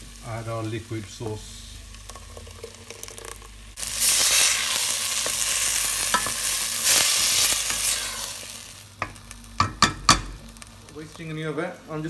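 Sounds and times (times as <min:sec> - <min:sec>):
sauce sizzling in hot pot: 0:00.0 - 0:12.0.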